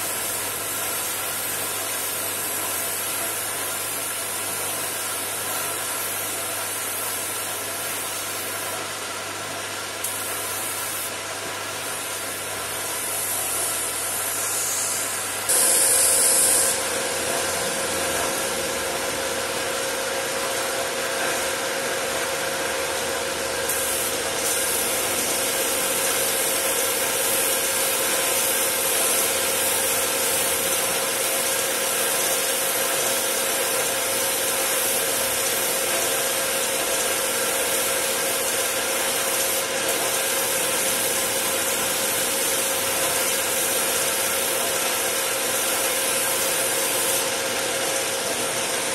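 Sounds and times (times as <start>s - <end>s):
spray gun hissing: 0.0s - 8.8s, 10.0s - 19.5s, 23.6s - 48.9s
mechanical hum: 0.0s - 48.9s.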